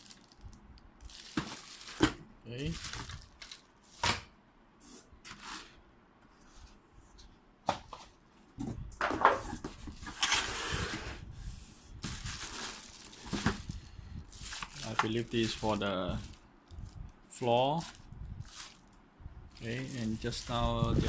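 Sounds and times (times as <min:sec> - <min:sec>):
plastic and cardboard rustling: 0:00.0 - 0:04.2, 0:04.9 - 0:05.8, 0:06.4 - 0:21.0.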